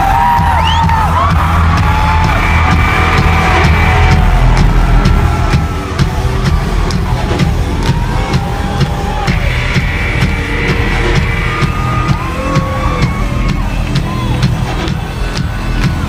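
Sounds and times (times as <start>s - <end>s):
crowd screaming and whooping: 0.0s - 16.0s
electronic dance beat: 0.0s - 16.0s.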